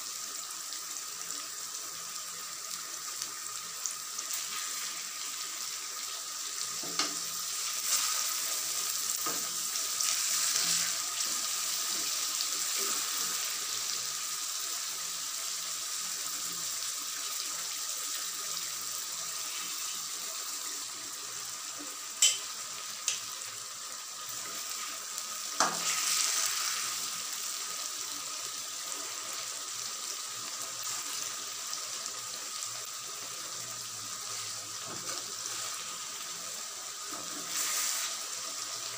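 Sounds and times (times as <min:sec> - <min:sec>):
curry sizzling in a pot: 0:00.0 - 0:38.9.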